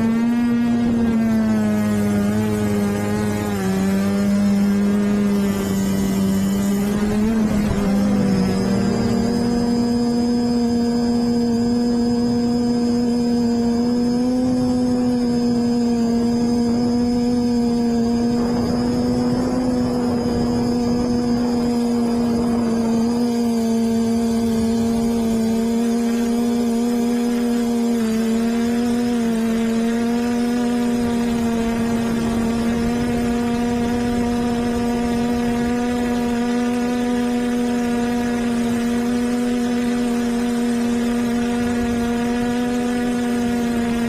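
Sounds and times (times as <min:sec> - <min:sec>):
drone propellers buzzing: 0:00.0 - 0:44.0.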